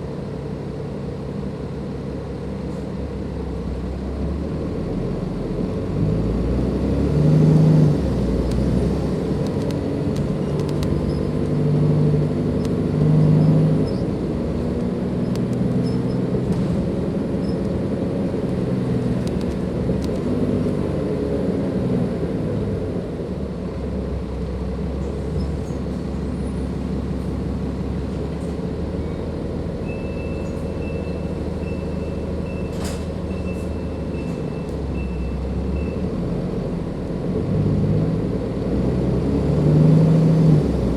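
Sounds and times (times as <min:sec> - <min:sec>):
bus diesel engine: 0:00.0 - 0:40.9.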